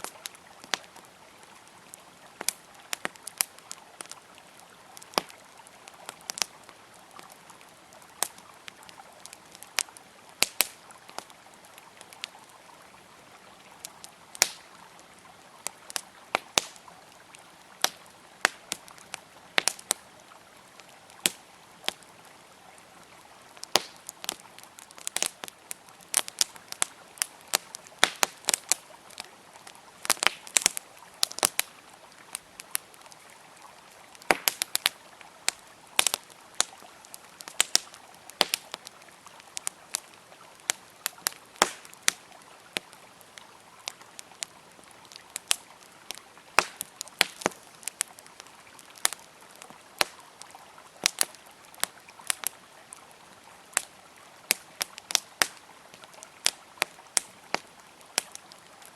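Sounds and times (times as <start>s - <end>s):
wood fire crackling and popping: 0.0s - 22.4s, 23.0s - 53.1s, 53.7s - 53.9s, 54.5s - 58.9s
river flowing: 0.0s - 58.9s.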